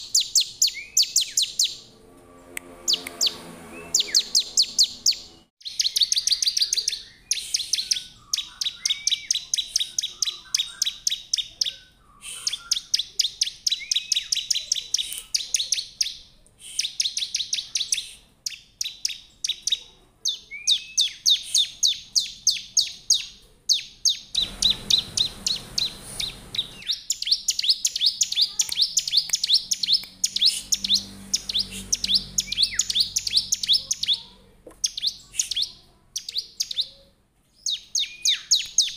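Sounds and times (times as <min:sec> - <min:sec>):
bird singing sharp high chirps: 0:00.0 - 0:01.9, 0:02.6 - 0:37.0, 0:37.6 - 0:38.9.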